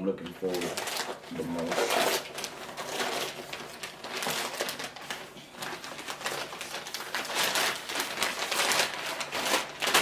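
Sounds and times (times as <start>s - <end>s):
packaging crinkling: 0.2s - 10.0s.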